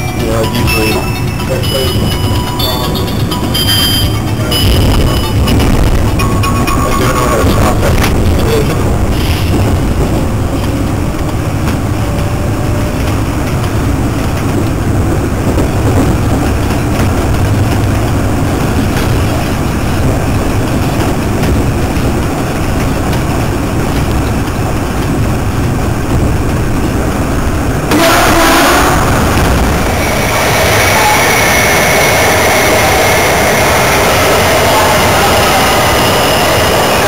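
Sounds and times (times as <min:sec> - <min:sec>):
rumble of train wheels on rails: 0:00.0 - 0:37.0.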